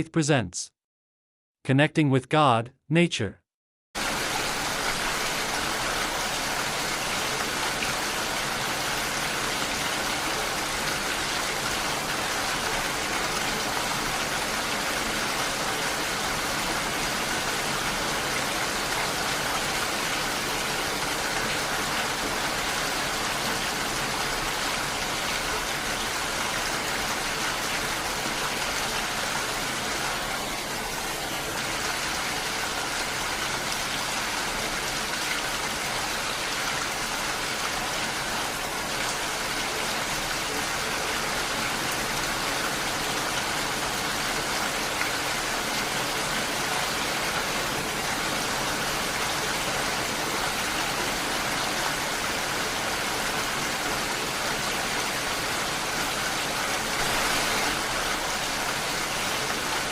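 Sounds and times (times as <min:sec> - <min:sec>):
heavy rain falling: 0:04.0 - 0:59.9.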